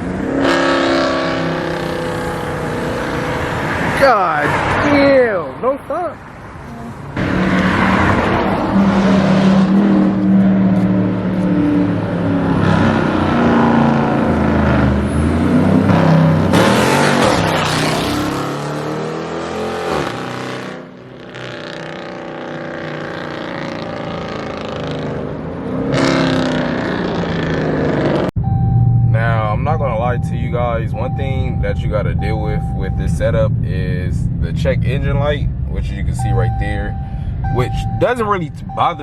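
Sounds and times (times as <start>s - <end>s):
loud car engine revving: 0.0s - 5.4s, 7.0s - 39.0s.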